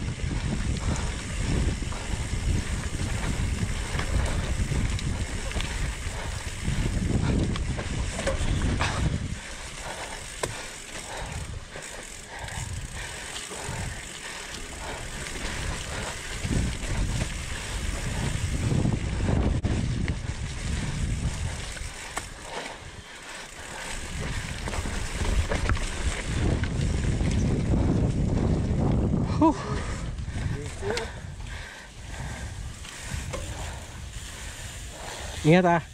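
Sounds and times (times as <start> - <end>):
bike rattling and knocking: 0.0 - 35.9
bike tyres rolling on dirt: 0.0 - 35.9
wind buffeting microphone: 0.0 - 35.9.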